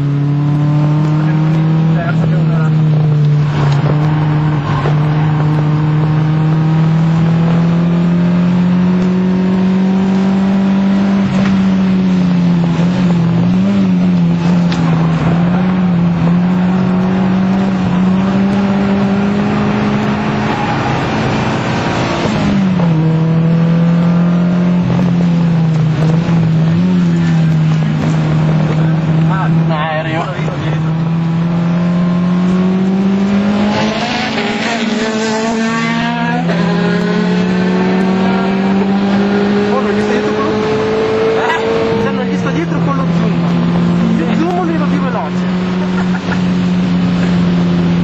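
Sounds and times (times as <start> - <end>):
car engine running hard: 0.0 - 48.0
road and wind noise: 0.0 - 48.0.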